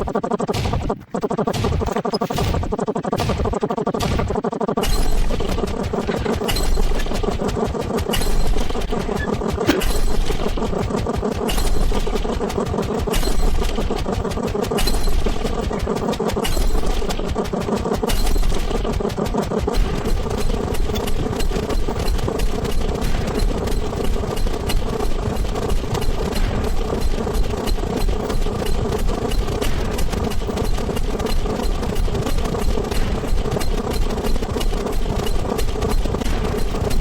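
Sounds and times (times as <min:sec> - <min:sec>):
engine-like drone with clicks: 0:00.0 - 0:37.0.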